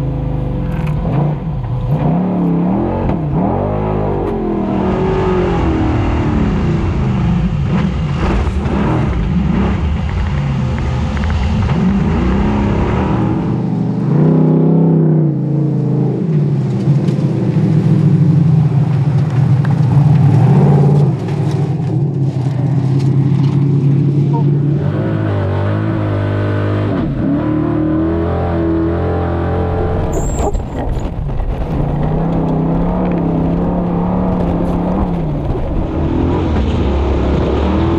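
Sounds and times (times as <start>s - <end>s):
engine revving: 0.0s - 18.5s, 19.8s - 37.9s.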